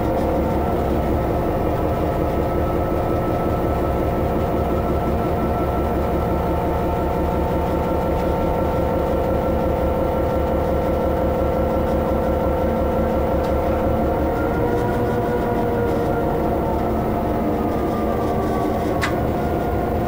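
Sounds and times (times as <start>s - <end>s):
diesel locomotive engine droning: 0.0s - 20.0s
low train rumble: 0.0s - 20.0s.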